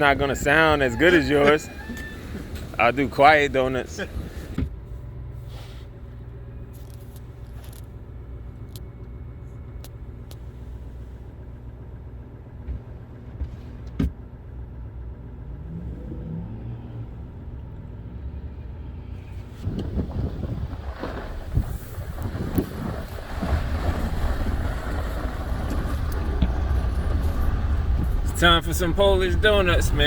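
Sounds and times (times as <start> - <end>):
pickup engine running: 0.0 - 30.0.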